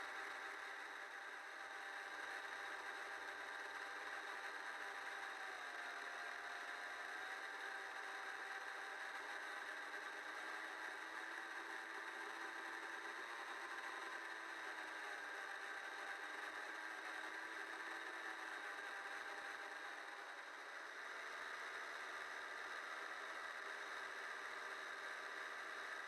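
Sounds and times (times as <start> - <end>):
small boat motor whirring: 0.0 - 26.0.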